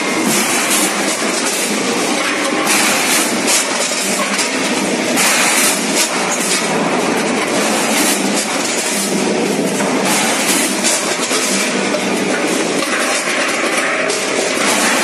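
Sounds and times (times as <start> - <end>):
weighing machine clattering: 0.0 - 15.0.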